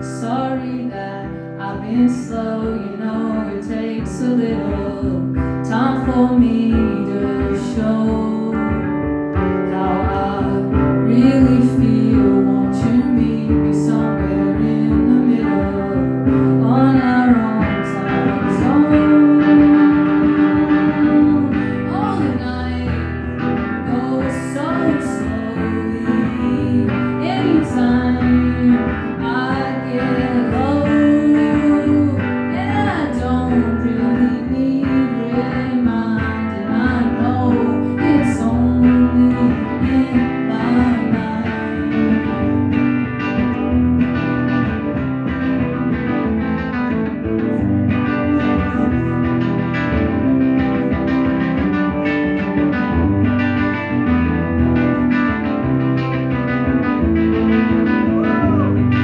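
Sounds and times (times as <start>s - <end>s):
electric guitar with sliding melody: 0.0s - 59.0s.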